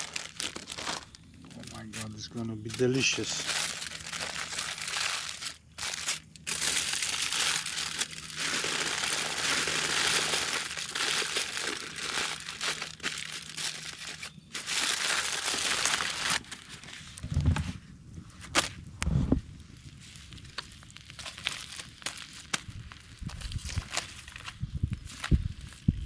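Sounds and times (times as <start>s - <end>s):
aluminium foil crinkling: 0.0s - 17.3s, 19.6s - 25.9s.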